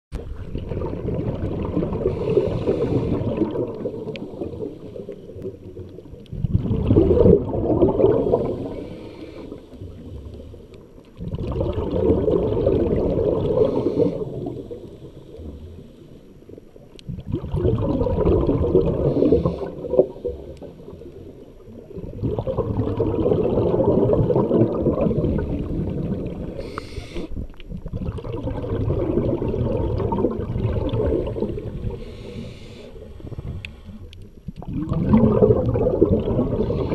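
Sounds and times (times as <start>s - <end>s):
muffled underwater rushing water: 0.1s - 36.9s.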